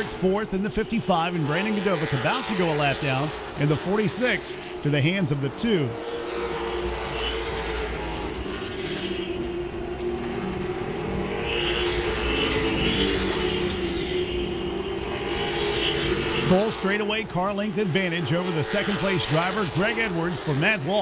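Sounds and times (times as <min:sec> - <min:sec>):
racing car engines droning: 0:00.0 - 0:21.0.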